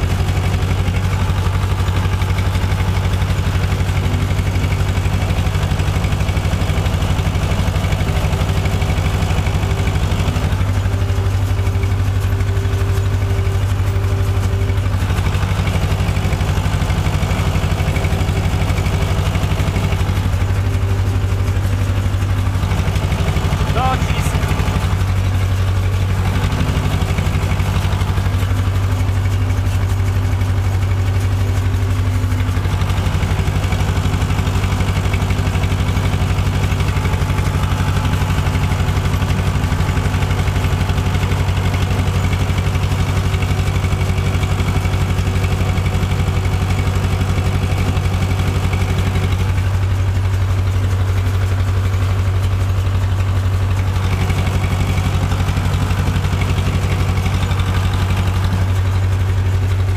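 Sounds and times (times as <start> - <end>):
baler pickup gathering grass: 0.0 - 59.9
tractor engine running: 0.0 - 59.9.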